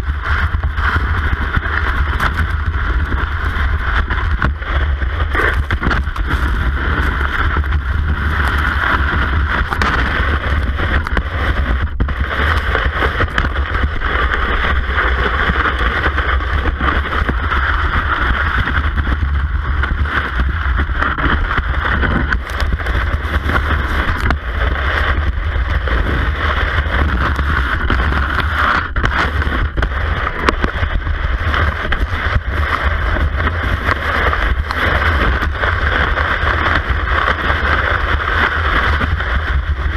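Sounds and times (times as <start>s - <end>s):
ski gliding over packed snow: 0.0s - 39.9s
wind rumble on microphone: 0.0s - 39.9s.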